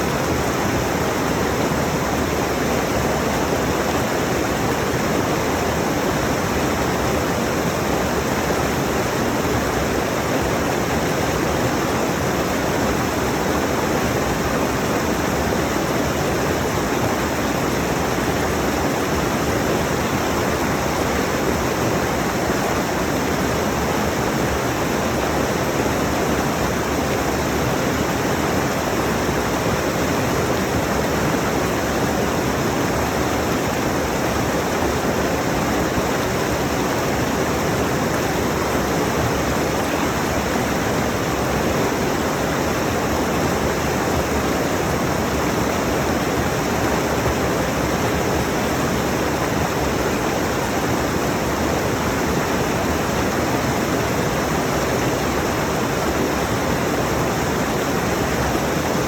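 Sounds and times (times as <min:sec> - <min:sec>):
water rushing over rocks: 0:00.1 - 0:59.0.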